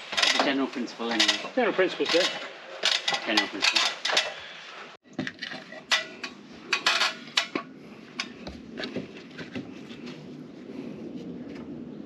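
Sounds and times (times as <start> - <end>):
clay roof tiles clinking: 0.0 - 4.5, 5.1 - 10.2.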